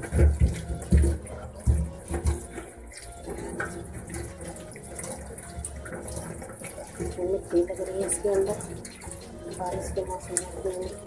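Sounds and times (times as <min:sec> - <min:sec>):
tap water splashing into sink: 0:00.0 - 0:11.0.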